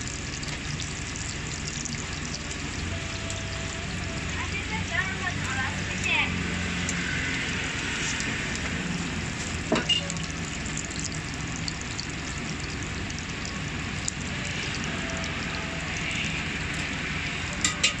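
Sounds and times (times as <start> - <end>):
pastries sizzling in oil: 0.0 - 18.0.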